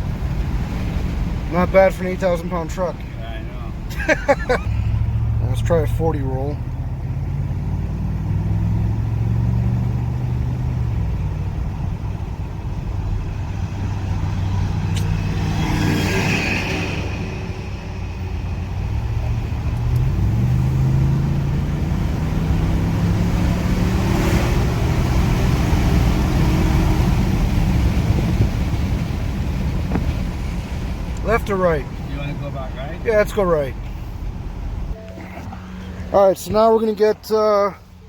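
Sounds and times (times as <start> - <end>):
pickup truck engine accelerating: 0.0 - 38.0.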